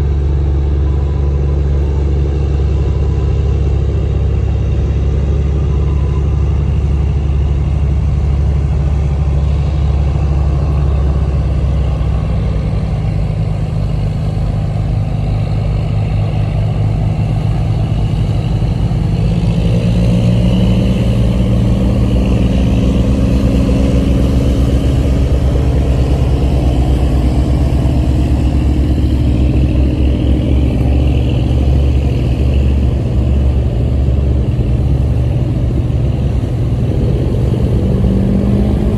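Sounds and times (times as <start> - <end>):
boat diesel engine running: 0.0 - 38.9.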